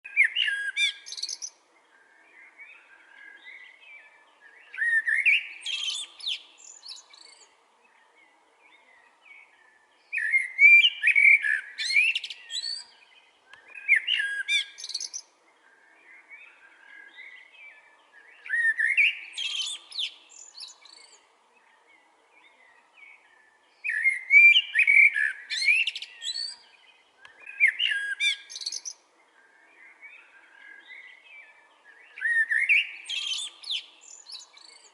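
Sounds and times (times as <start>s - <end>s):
blackbird singing: 0.0s - 34.9s.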